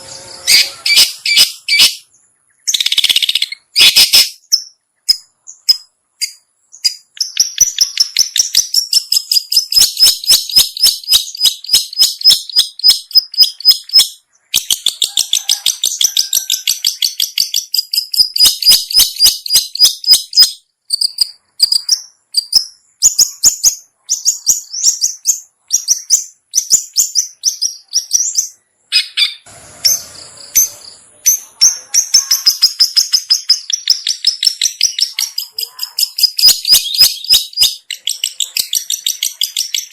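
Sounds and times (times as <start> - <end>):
bird call high repeated notes: 0.0 - 39.9.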